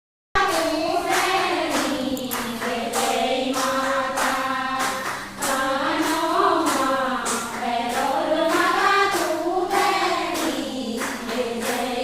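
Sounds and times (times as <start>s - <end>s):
voices singing in unison: 0.4s - 12.0s.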